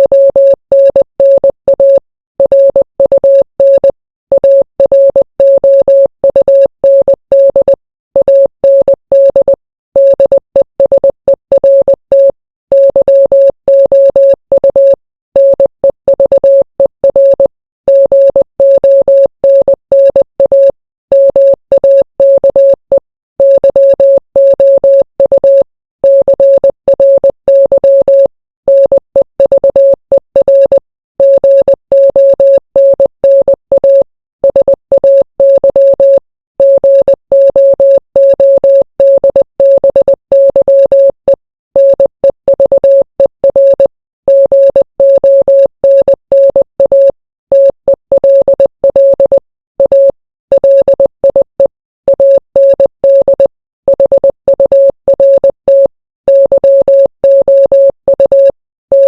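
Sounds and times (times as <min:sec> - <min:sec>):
morse code beeping: 0:00.0 - 0:59.0.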